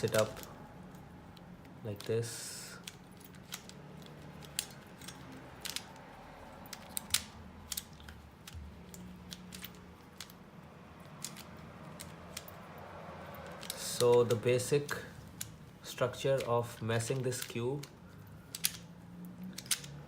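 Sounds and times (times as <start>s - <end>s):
plastic puzzle clicking: 0.0s - 12.6s, 13.3s - 15.6s, 16.4s - 20.0s.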